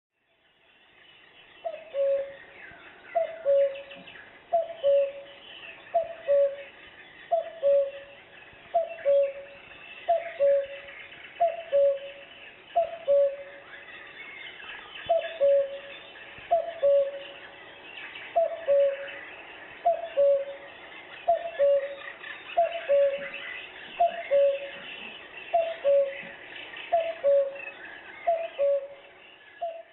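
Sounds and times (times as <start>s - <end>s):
cuckoo calling through a speaker: 1.6s - 17.6s, 18.3s - 29.9s.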